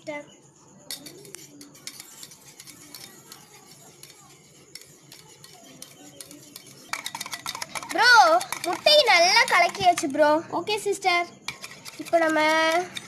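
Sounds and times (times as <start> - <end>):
wire whisk clicking in metal bowl: 0.9 - 10.1, 11.5 - 13.0.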